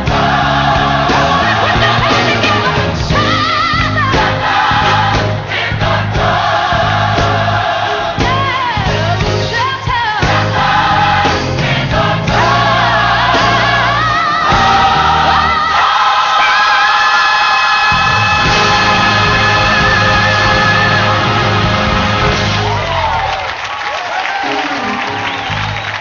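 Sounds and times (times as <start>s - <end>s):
band with bass line: 0.0s - 16.0s, 17.9s - 23.4s
gospel choir and lead singer: 0.0s - 23.3s.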